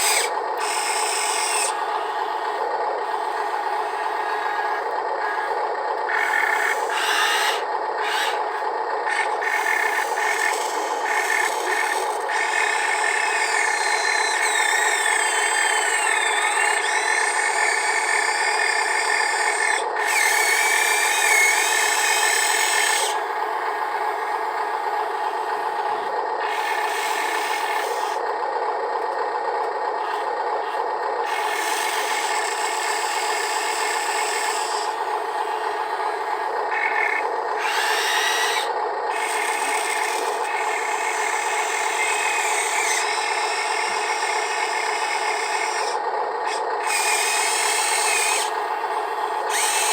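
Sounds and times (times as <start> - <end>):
electric motors whirring: 0.0 - 49.9.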